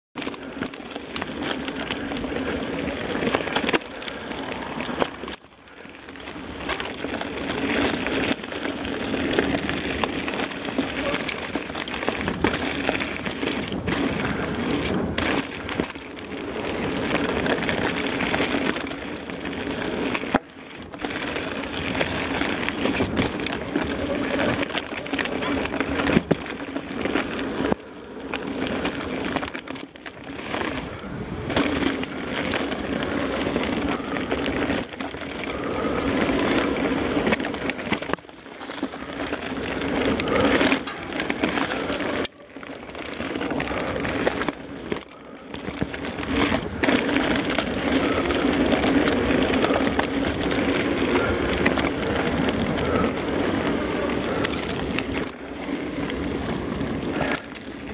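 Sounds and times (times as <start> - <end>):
bike rattling: 0.2 - 57.9
bike tyres rumbling on dirt: 0.2 - 57.9.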